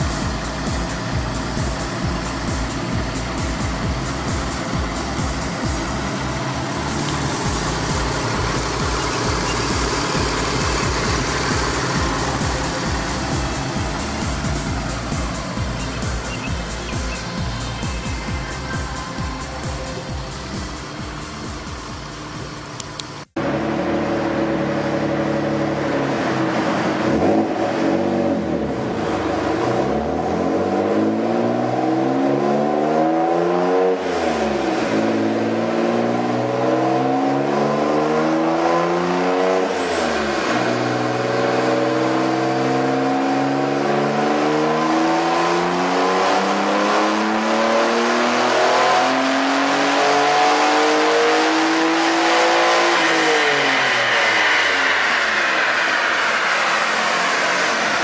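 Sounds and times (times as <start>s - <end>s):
car engine revving on a dyno: 0.0s - 58.0s.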